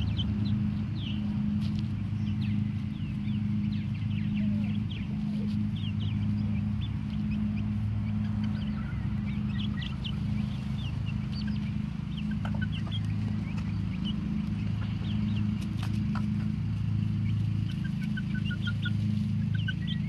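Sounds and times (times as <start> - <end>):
chickens chirping and clucking: 0.0 - 20.0
low hum: 0.0 - 20.0.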